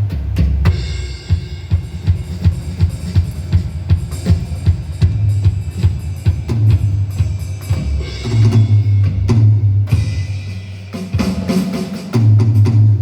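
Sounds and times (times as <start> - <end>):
drums playing a beat: 0.0 - 13.0.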